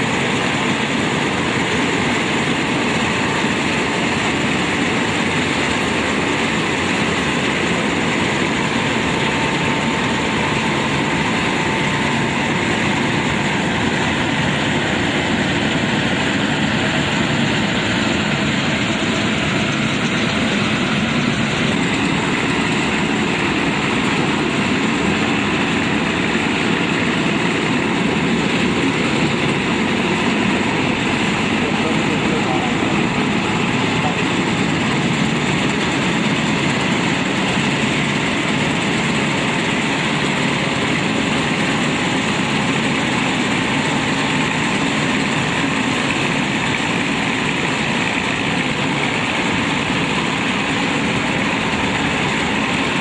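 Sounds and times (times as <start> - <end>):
combine harvester running: 0.0 - 53.0.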